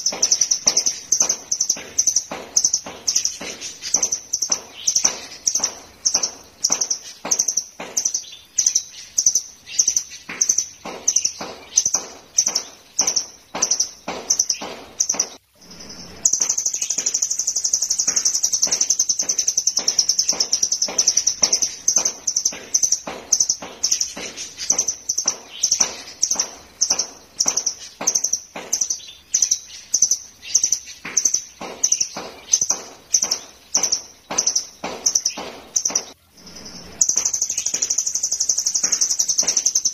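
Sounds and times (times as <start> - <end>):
bird singing high notes and trills: 0.0 - 39.9.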